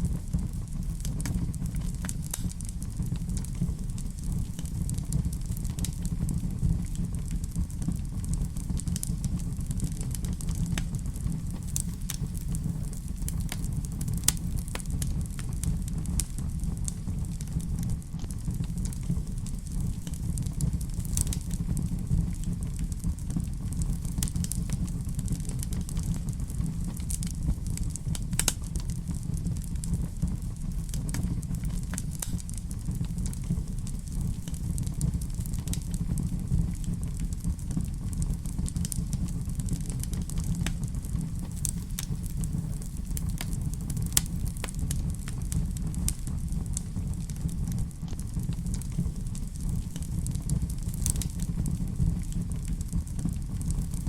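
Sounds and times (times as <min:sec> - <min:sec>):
fire crackling and popping: 0:00.0 - 0:54.0
fire rumbling in fireplace: 0:00.0 - 0:54.0.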